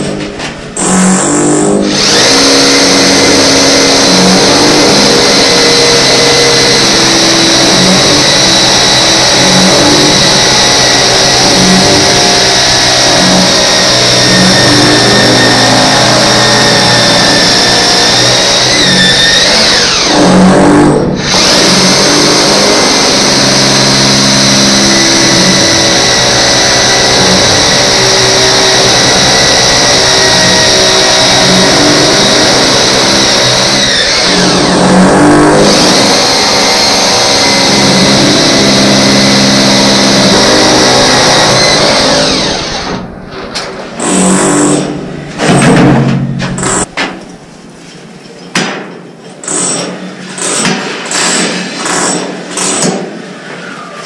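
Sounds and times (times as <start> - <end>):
electric drill boring into wall: 0.8 - 43.1, 44.0 - 46.9, 49.4 - 53.0.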